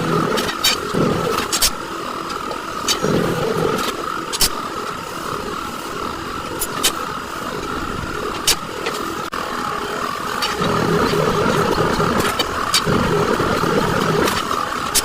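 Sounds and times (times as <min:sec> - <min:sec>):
engine-like hum: 0:00.0 - 0:15.0.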